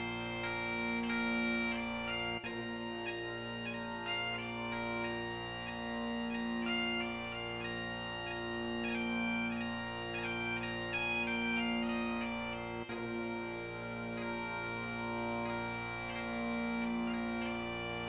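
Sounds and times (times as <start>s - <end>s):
bagpipe chanter melody: 0.0s - 18.0s
bagpipe drone: 0.0s - 18.0s.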